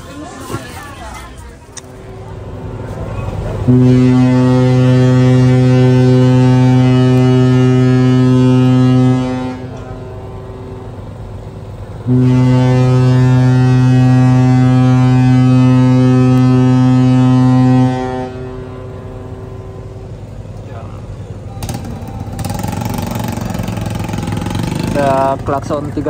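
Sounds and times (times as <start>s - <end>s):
deep ship horn blasts: 2.0s - 25.5s.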